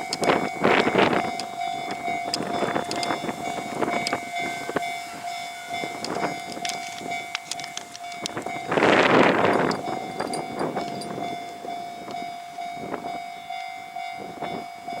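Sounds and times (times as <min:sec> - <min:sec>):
electric train rushing past: 0:00.0 - 0:15.0
level crossing alarm tone: 0:00.0 - 0:15.0
wheels clicking on rail joints: 0:00.0 - 0:15.0.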